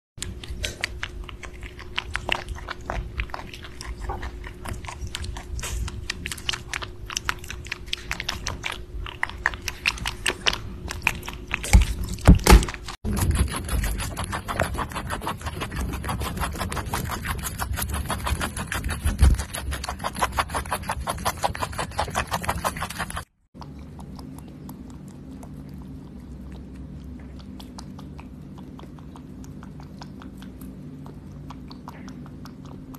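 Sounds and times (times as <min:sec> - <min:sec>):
rabbit crunching tomatoes: 0:00.2 - 0:32.9
rabbits nibbling leaves: 0:00.2 - 0:32.9.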